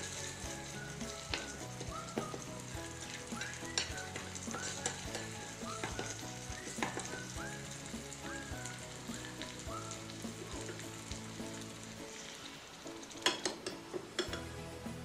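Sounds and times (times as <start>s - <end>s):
gravy sizzling in a pan: 0.0s - 15.0s.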